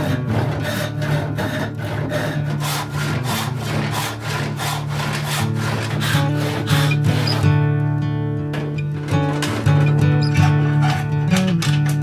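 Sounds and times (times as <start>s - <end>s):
hand saw ripping wood: 0.0s - 7.6s, 8.6s - 12.0s.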